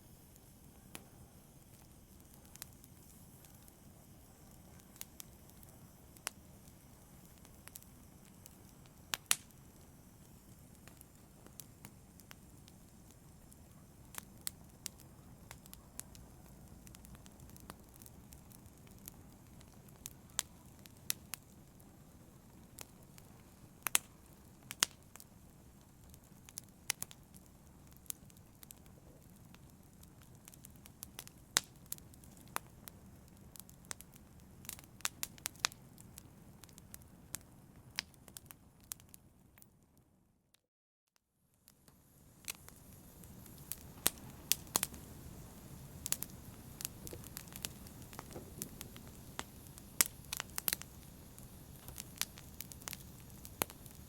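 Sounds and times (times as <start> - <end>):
fire crackling and popping: 0.0 - 40.0, 41.5 - 54.0.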